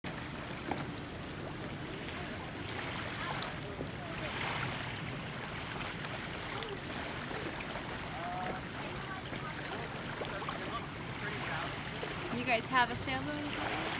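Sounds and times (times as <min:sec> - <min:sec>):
small waves in shallows: 0:00.0 - 0:13.9.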